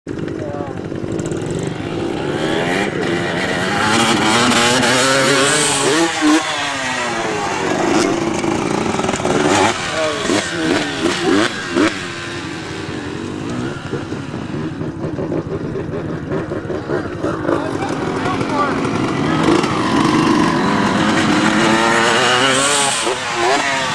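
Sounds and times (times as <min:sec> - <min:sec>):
dirt bike engine revving: 0:00.1 - 0:23.9.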